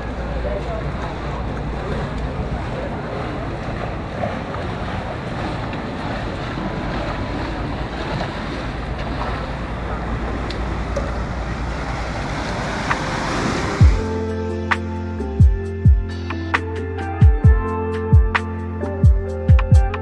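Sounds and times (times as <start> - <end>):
wind buffeting microphone: 0.0 - 16.1.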